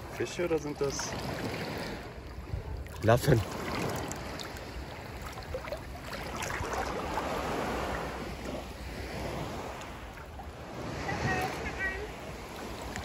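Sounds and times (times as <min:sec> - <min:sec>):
sea water lapping: 0:00.0 - 0:13.0.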